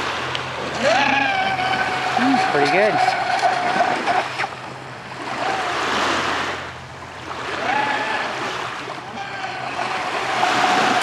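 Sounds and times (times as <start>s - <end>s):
distant toy boat motor whine: 0.0s - 11.0s
waves rushing: 0.0s - 11.0s
wind: 0.0s - 11.0s.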